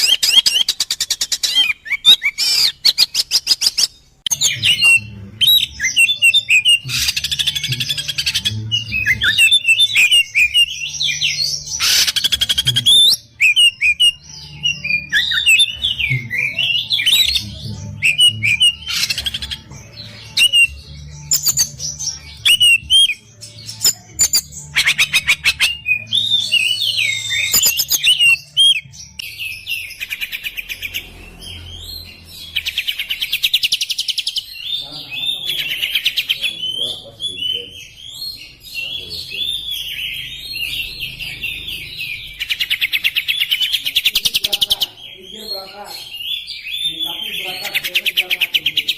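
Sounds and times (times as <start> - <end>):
bird song whistles and trills: 0.0 - 48.9
harsh rattling bird calls: 0.0 - 48.9.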